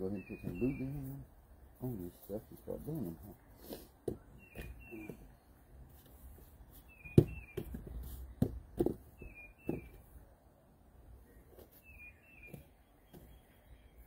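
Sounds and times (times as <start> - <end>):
bird chirping: 0.0 - 5.8, 6.7 - 10.2, 11.2 - 14.0.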